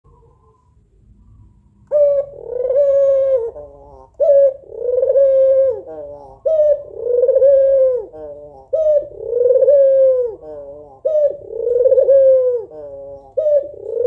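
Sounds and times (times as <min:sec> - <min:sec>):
dove cooing: 0:01.9 - 0:14.0.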